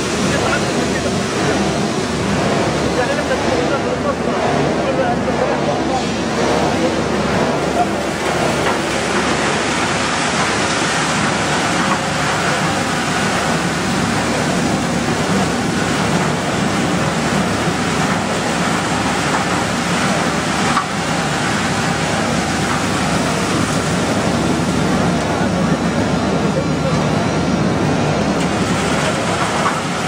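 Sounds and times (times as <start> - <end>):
recycling machinery rushing noise: 0.0 - 30.0.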